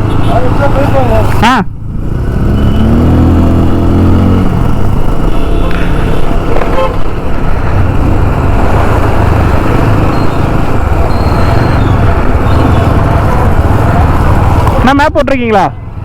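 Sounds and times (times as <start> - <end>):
motorcycle engine running: 0.0 - 15.0
road noise: 0.0 - 16.0.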